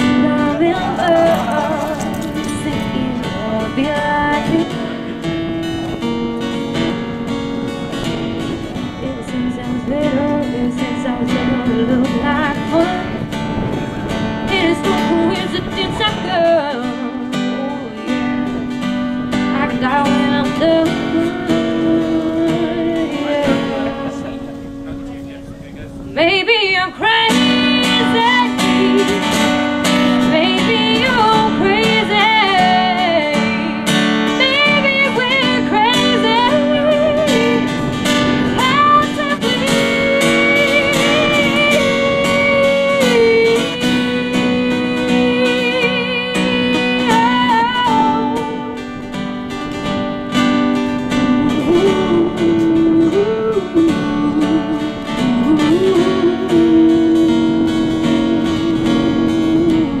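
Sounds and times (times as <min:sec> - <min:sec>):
woman singing with vibrato: 0:00.0 - 0:05.3, 0:08.8 - 0:18.8, 0:19.4 - 0:24.3, 0:26.2 - 0:49.3, 0:50.9 - 1:00.0
strummed acoustic guitar: 0:00.0 - 1:00.0.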